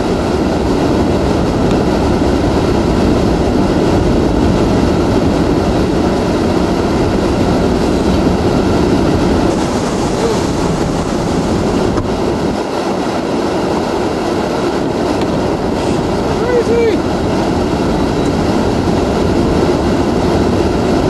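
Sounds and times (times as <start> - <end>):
driving rain: 0.0 - 21.0
hurricane winds: 0.0 - 21.0.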